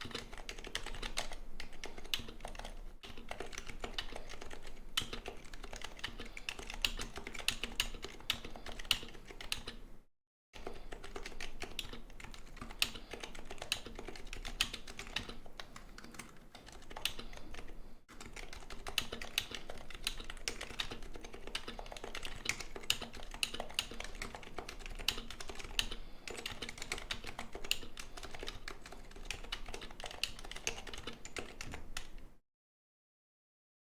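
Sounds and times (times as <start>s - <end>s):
fast keyboard typing: 0.0s - 9.9s, 10.6s - 32.3s.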